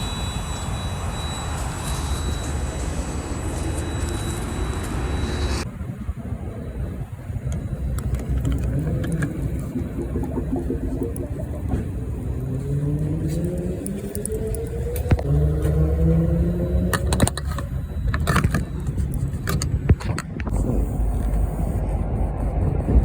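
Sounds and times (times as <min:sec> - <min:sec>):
vehicle engine: 0:01.0 - 0:23.0.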